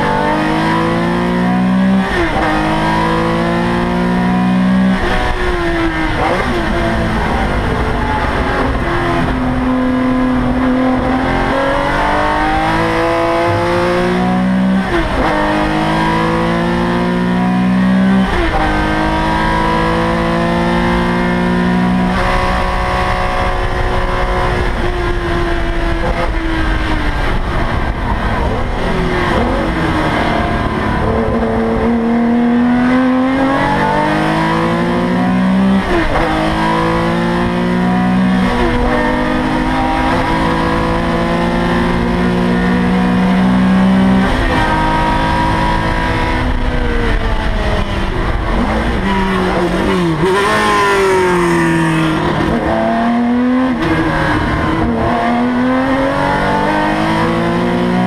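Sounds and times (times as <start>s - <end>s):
race car engine at high revs: 0.0s - 58.0s.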